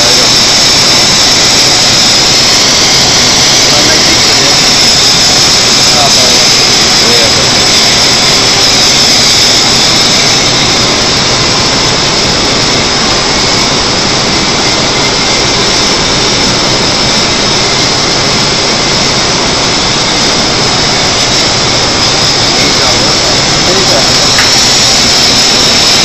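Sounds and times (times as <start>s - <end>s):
vacuum pan rushing hiss: 0.0s - 26.0s.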